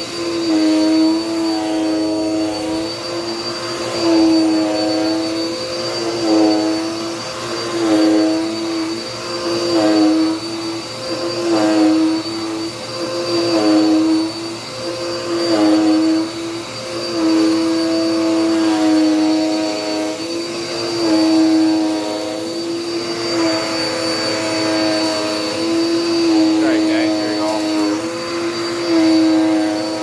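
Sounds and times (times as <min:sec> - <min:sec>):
vacuum cleaner motor whine: 0:00.0 - 0:30.0.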